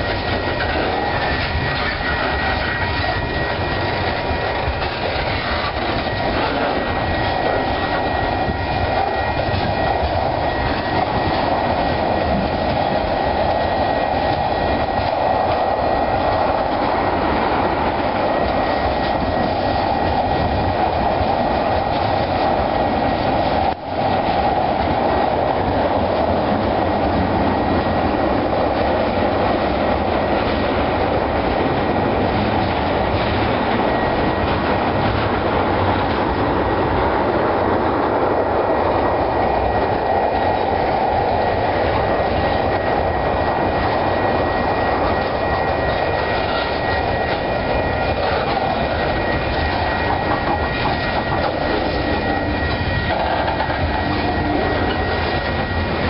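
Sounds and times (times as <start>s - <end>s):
freight train rolling past: 0.0s - 56.0s
steel wheels rattling on rails: 0.0s - 56.0s.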